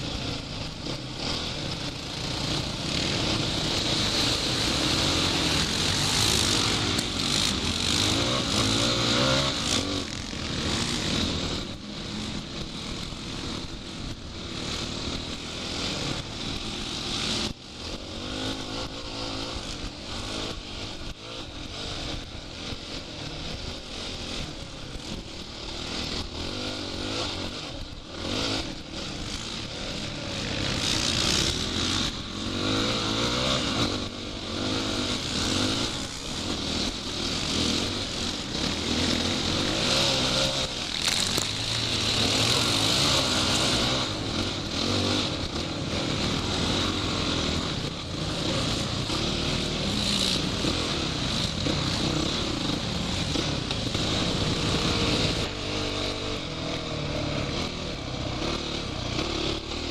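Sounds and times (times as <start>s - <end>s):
off-road motorcycle engine revving: 0.0s - 59.9s.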